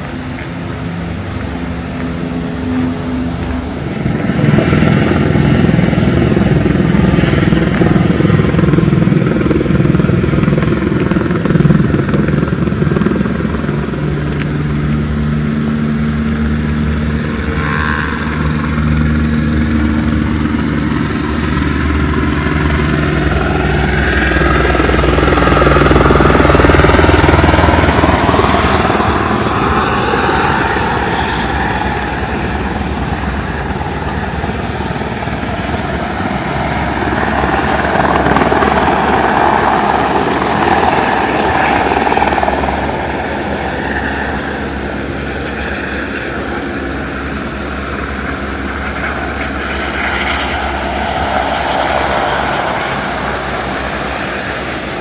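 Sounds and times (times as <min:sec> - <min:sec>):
rushing noise: 0:00.0 - 0:55.0
vehicle engine humming: 0:00.0 - 0:55.0.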